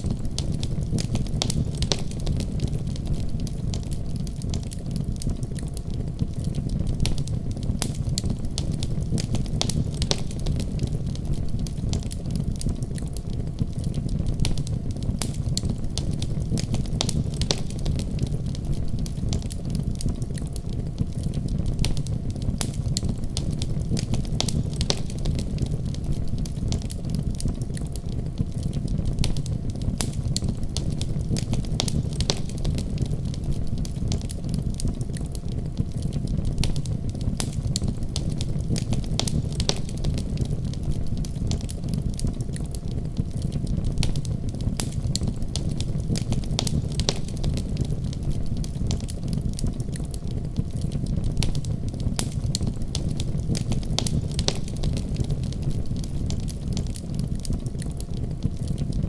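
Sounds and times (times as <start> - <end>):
low rumble of flames: 0.0 - 59.0
wood crackling and popping: 0.0 - 59.0.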